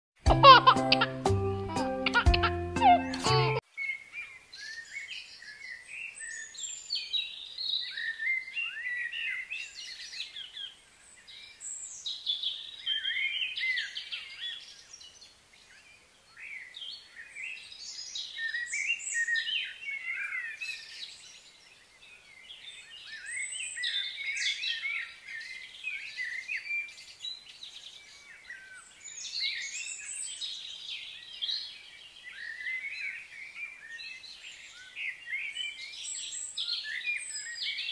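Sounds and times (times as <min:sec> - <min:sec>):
songbirds chirping: 0:00.3 - 0:37.9.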